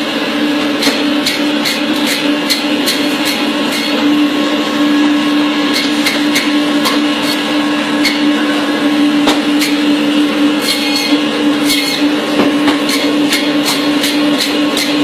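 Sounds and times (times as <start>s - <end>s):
electric saw cutting bone: 0.5s - 15.0s.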